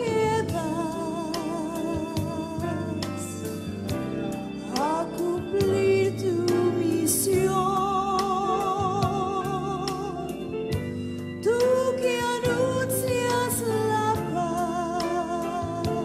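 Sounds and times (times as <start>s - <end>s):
instrumental backing with steady beat: 0.0s - 16.0s
person singing with vibrato: 0.0s - 16.0s.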